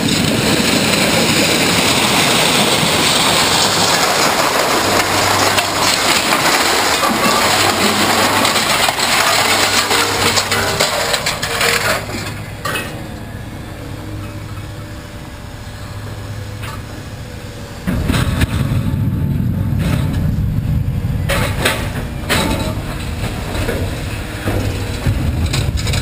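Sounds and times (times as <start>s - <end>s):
scrap metal crashing into trailer: 0.0s - 13.4s, 17.8s - 26.0s
metal clanking and banging: 0.0s - 15.0s, 17.8s - 26.0s
diesel engine running: 0.0s - 26.0s.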